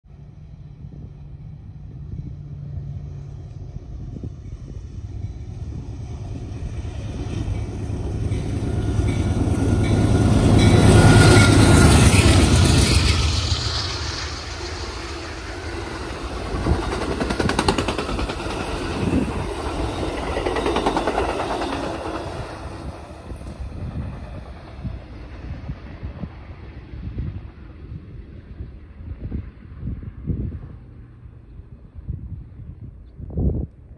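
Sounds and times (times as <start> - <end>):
train cars rolling past: 0.1 - 33.4
locomotive rumble: 0.1 - 33.7.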